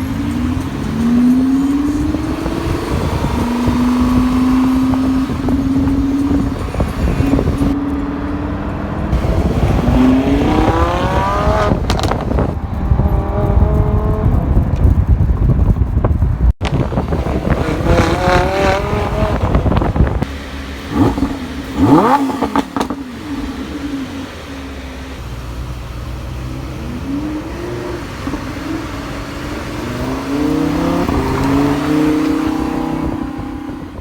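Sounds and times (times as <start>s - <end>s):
exhaust pops: 0.0s - 34.0s
sports car engine accelerating: 0.0s - 34.0s.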